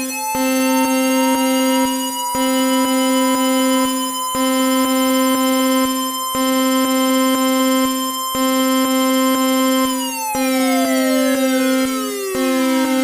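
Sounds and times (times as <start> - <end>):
emergency alert alarm tone: 0.0 - 13.0.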